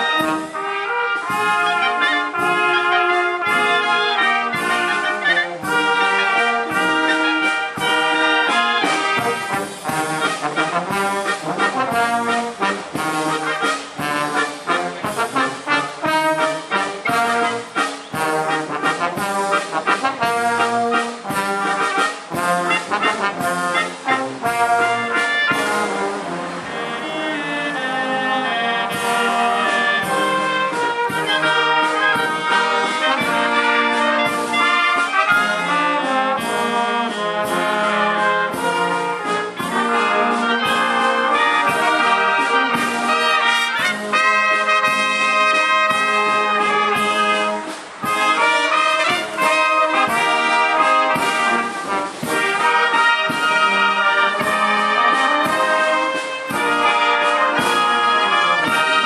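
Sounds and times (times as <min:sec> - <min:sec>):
brass band playing a waltz: 0:00.0 - 0:59.0.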